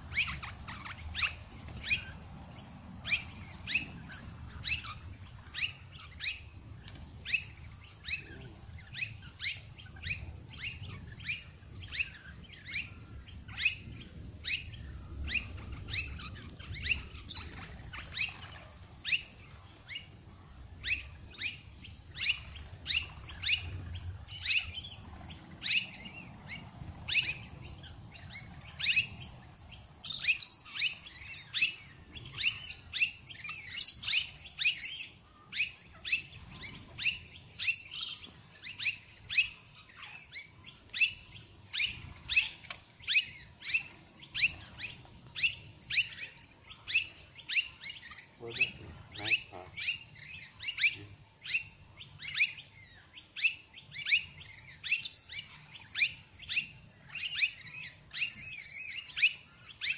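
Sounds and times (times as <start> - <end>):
lorikeets screeching: 0.0 - 6.6, 7.3 - 59.9.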